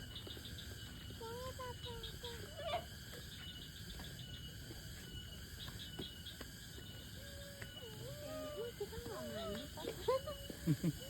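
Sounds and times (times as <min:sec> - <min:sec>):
insect pulsed chirps: 0:00.0 - 0:11.0
insects trilling: 0:00.0 - 0:11.0.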